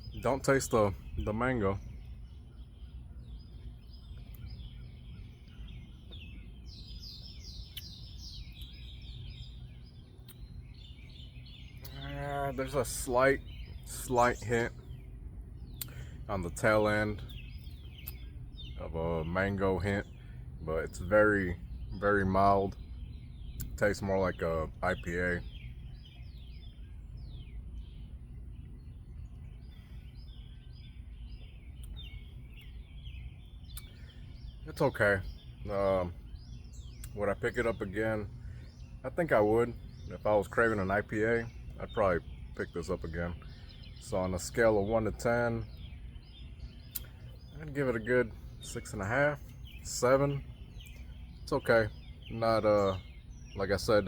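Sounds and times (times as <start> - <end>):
low outdoor rumble: 0.0 - 54.0
songbirds chirping: 0.0 - 54.0.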